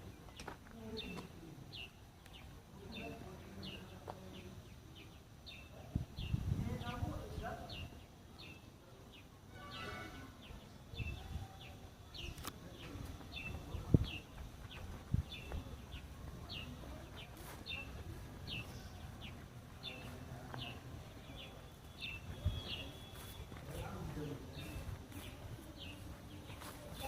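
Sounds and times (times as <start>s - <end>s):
bird chirping: 0.1s - 27.0s.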